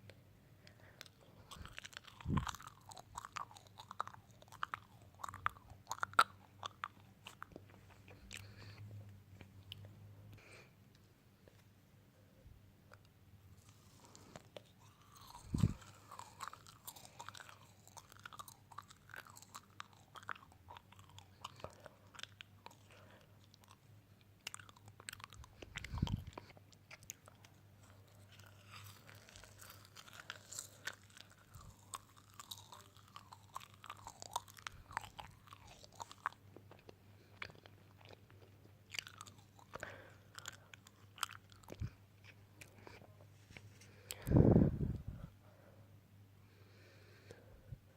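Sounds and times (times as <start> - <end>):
chewing and crunching: 0.0 - 11.6, 12.9 - 45.2.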